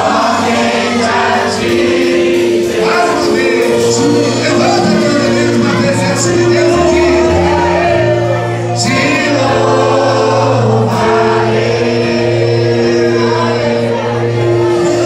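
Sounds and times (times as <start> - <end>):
choir singing gospel song: 0.0 - 15.0.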